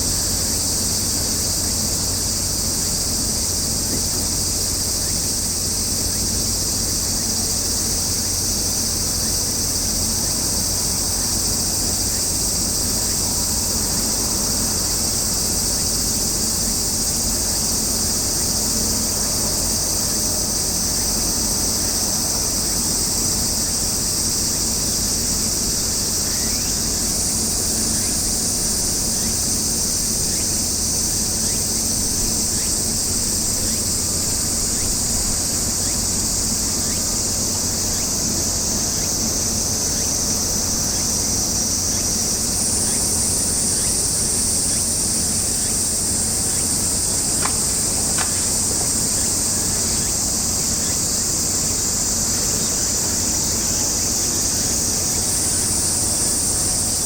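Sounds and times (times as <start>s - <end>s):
insects shrilling: 0.0s - 57.0s.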